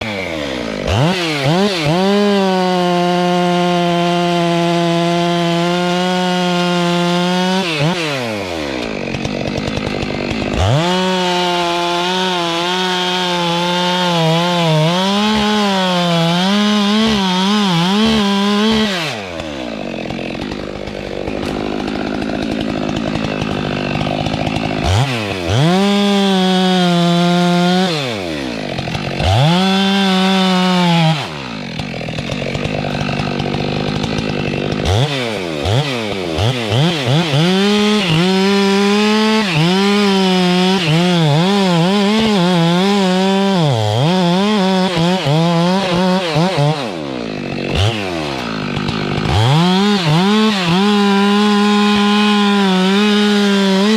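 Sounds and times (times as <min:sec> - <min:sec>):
chain cutting into wood: 0:00.0 - 0:53.9
chainsaw revving: 0:00.0 - 0:53.9.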